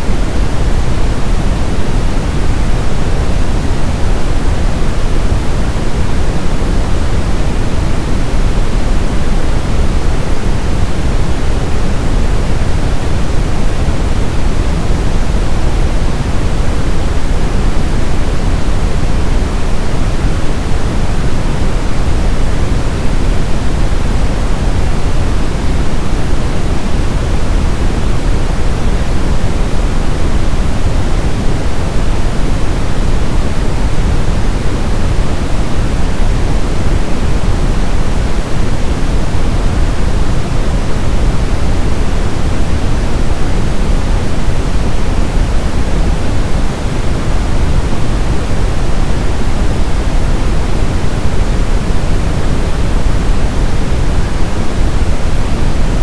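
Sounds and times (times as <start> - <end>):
brown noise deep hiss: 0.0 - 56.0.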